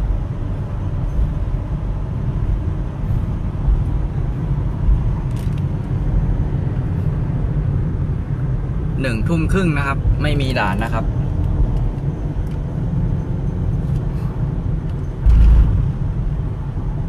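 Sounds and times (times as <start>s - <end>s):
engine and road noise in car: 0.0s - 17.0s.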